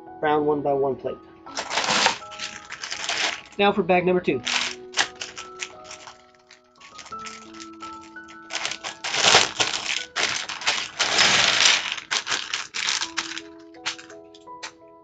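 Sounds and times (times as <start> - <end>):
background music with held notes: 0.0 - 15.0
plastic bag crinkling: 1.5 - 3.7, 4.4 - 14.8
plastic bricks rattling: 1.6 - 3.6, 4.4 - 14.4.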